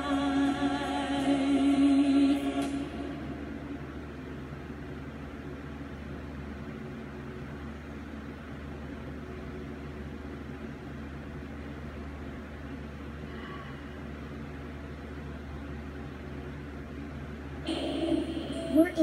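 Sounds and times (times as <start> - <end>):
room noise hum and hiss: 0.0 - 19.0.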